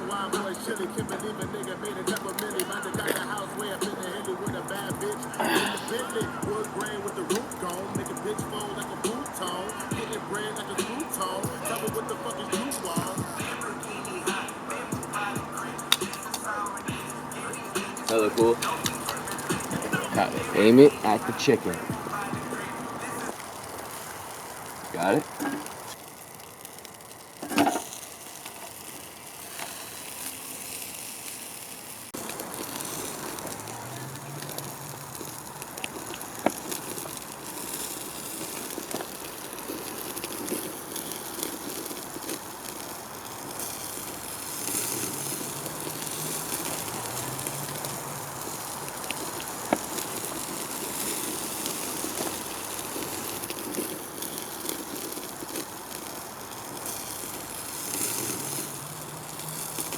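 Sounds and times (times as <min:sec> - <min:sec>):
fire crackling and popping: 0:00.0 - 0:59.9
grill fire sizzling: 0:00.0 - 0:59.9.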